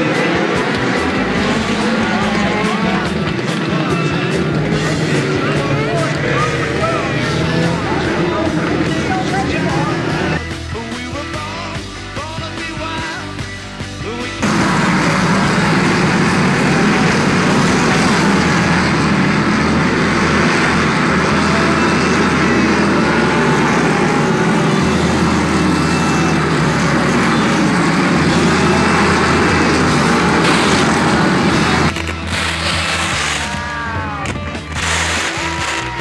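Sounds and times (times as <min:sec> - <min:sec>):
race car engines: 0:00.0 - 0:36.0.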